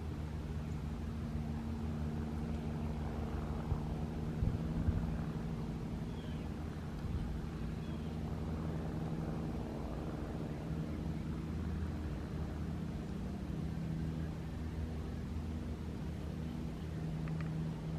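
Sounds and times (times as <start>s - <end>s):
low machine hum: 0.0s - 17.9s.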